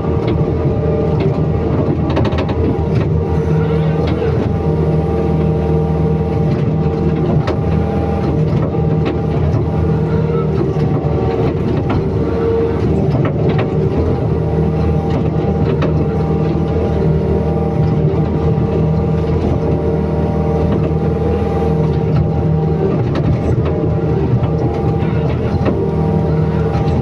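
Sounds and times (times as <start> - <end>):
excavator diesel engine: 0.0 - 27.0.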